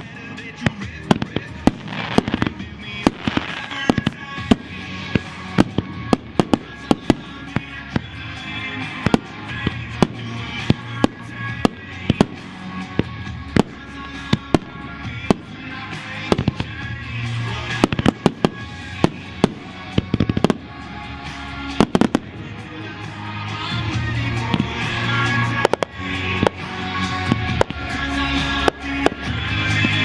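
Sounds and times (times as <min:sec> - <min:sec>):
background music: 0:00.0 - 0:30.0
fireworks bangs: 0:00.0 - 0:30.0.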